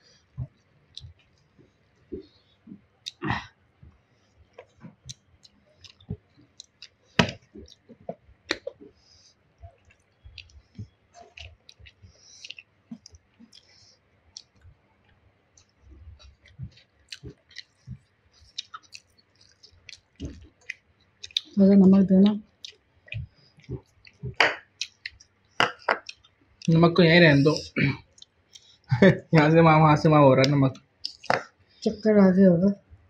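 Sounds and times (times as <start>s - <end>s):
chewing and mouth smacks: 0.4s - 9.0s, 9.6s - 21.6s, 22.2s - 26.7s, 27.5s - 28.9s, 30.4s - 31.8s.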